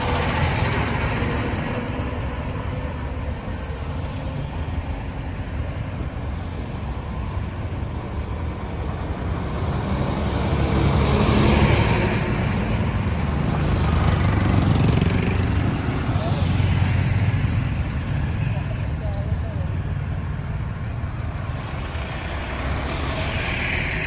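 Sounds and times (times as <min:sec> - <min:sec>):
road traffic rumble: 0:00.0 - 0:24.0
vehicles passing close: 0:00.0 - 0:24.0.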